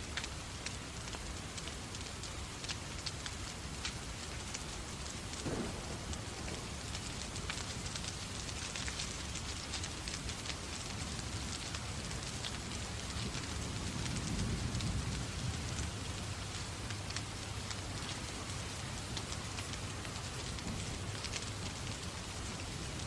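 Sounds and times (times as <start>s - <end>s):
fireplace fire crackling: 0.0s - 23.0s
steady rain falling: 0.0s - 23.0s.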